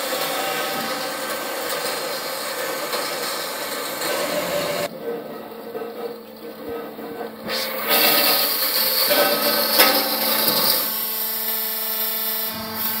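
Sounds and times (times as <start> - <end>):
band saw humming: 0.0 - 13.0
saw blade cutting metal: 0.0 - 13.0.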